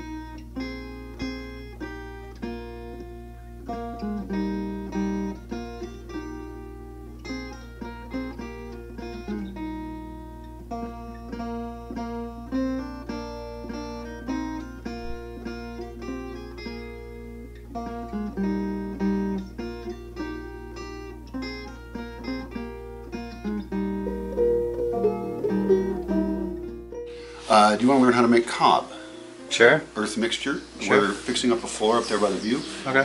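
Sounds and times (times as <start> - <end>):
acoustic guitar plucking: 0.0 - 31.2.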